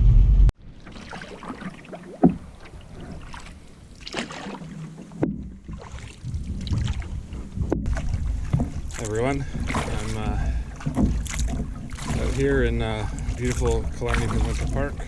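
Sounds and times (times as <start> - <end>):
paddle splashing water: 0.6 - 15.0.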